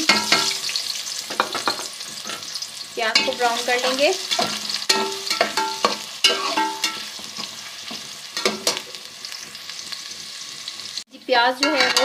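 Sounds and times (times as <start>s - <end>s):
onion sizzling in hot fat: 0.0s - 12.0s.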